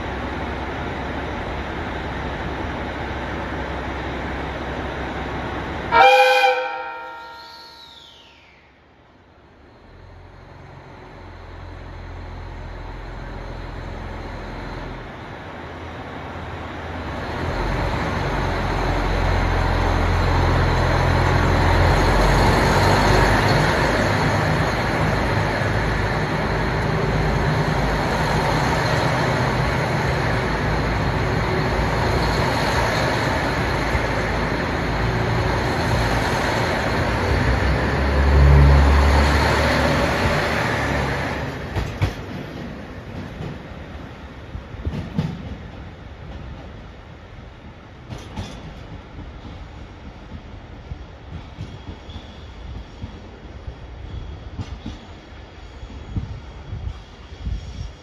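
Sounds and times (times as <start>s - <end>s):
train cars rolling past: 0.0s - 58.0s.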